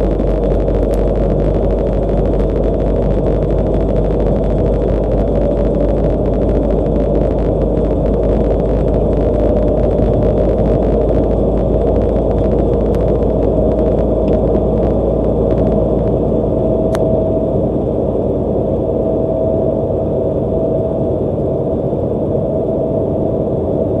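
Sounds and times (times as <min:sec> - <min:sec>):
car road and tyre noise: 0:00.0 - 0:24.0
low rumble and hum: 0:00.0 - 0:24.0.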